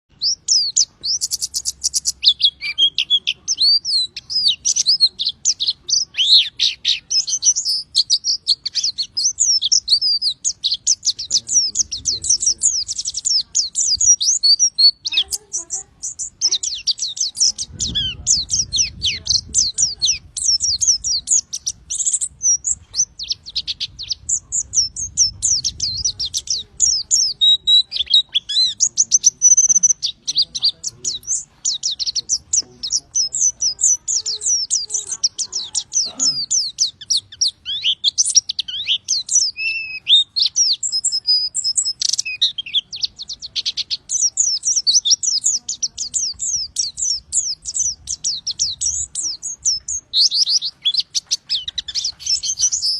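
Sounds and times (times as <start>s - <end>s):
bird chirping and trilling: 0.1s - 52.9s.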